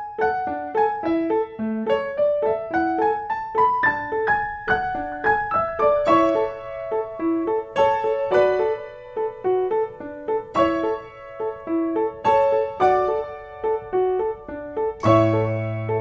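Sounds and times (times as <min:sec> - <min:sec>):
bouncy piano tune: 0:00.0 - 0:16.0.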